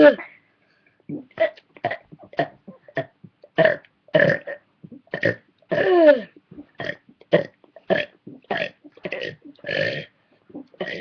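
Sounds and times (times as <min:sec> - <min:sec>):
person burping a tune: 0:01.1 - 0:11.0.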